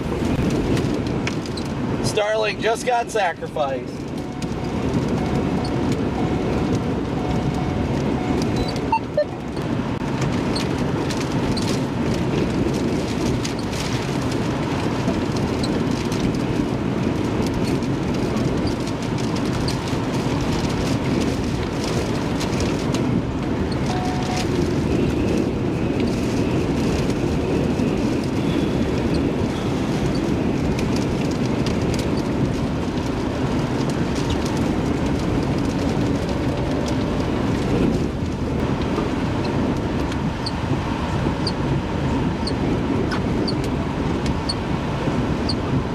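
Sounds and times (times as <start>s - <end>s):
rain: 0.0s - 45.9s
strong wind: 0.0s - 45.9s.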